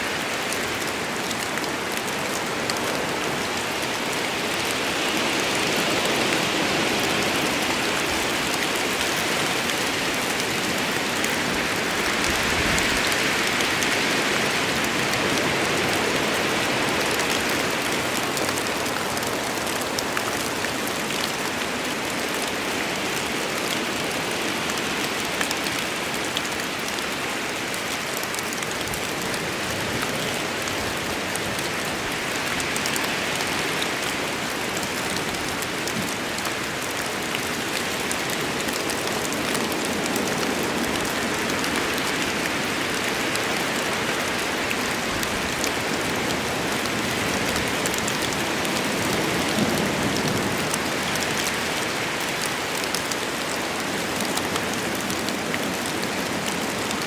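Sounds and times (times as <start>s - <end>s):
heavy rain falling: 0.0s - 57.0s
sharp ticks of raindrops: 0.0s - 57.0s.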